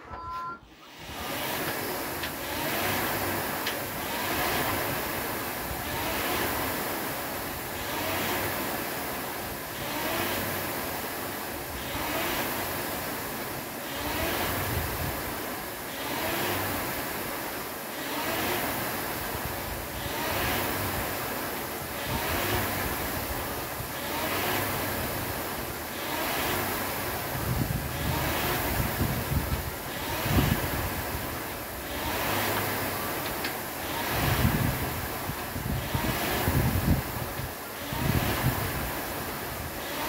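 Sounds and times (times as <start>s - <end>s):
rowing machine flywheel whooshing: 0.6s - 40.0s.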